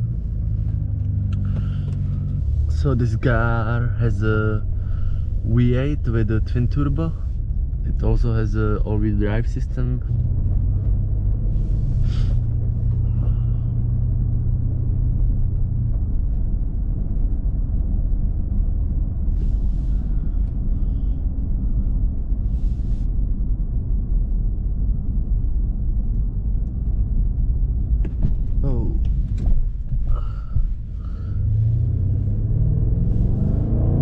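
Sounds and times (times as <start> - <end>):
car engine driving slowly: 0.0 - 34.0
road rumble: 0.0 - 34.0.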